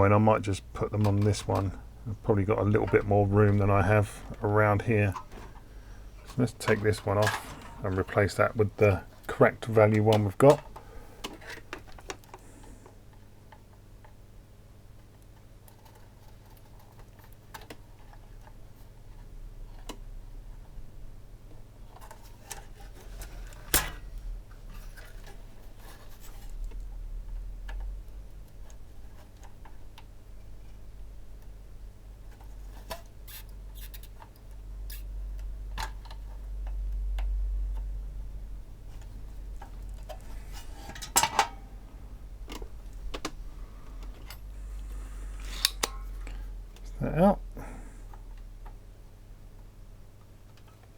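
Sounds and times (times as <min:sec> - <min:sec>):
steady low hum: 0:00.0 - 0:15.0, 0:22.0 - 0:50.2.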